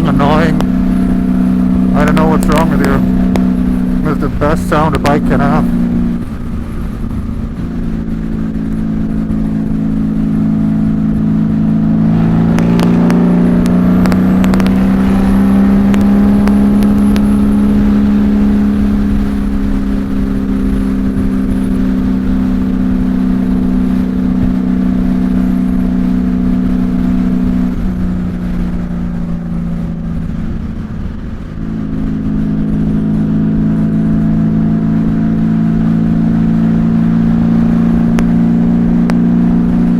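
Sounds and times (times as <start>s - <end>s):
motorcycle exhaust drone: 0.0s - 39.9s.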